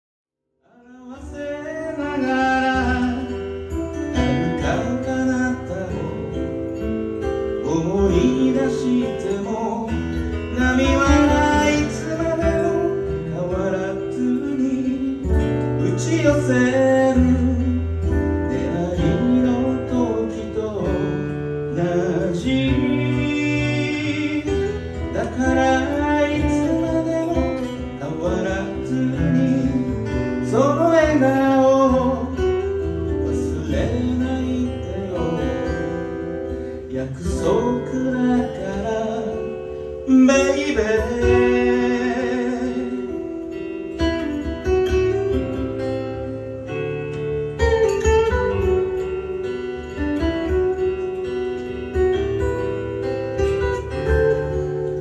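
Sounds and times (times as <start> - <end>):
acoustic guitars playing: 0.5 - 55.0.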